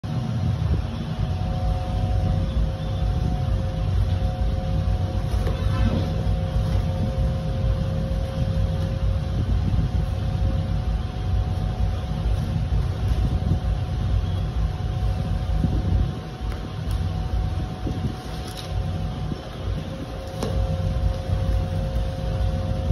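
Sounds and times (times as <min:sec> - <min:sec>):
faint steady hum: 0:00.0 - 0:22.9
steady low rumble: 0:00.0 - 0:22.9.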